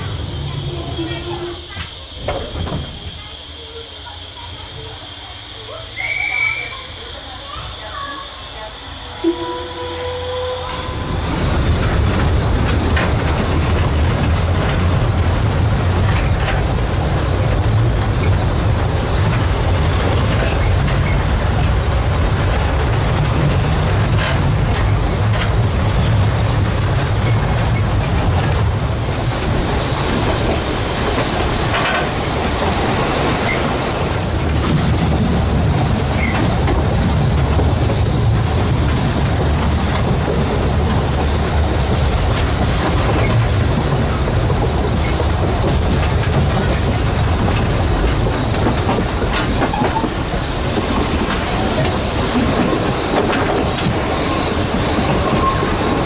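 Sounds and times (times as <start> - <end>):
steam train running: 0.0 - 56.0.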